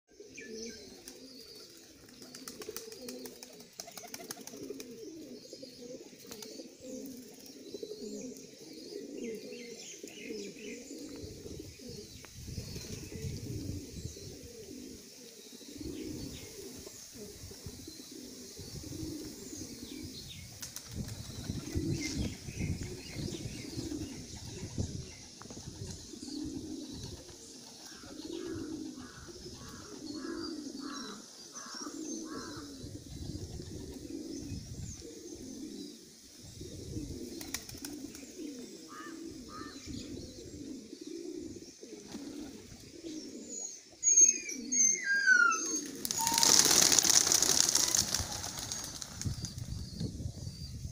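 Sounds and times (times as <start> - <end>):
pigeons cooing: 0.1 - 50.9
small birds chirping: 0.4 - 50.9.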